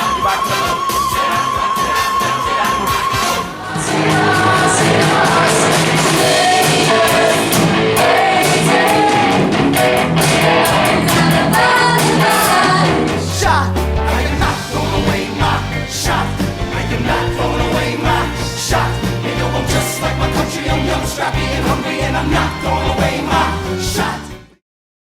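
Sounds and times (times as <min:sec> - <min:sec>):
ensemble singing: 0:00.0 - 0:24.2
band with steady beat: 0:03.4 - 0:24.1.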